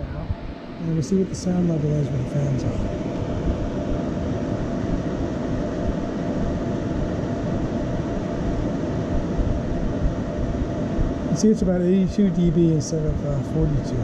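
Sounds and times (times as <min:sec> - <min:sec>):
cooling fans rushing air: 0:00.0 - 0:14.0.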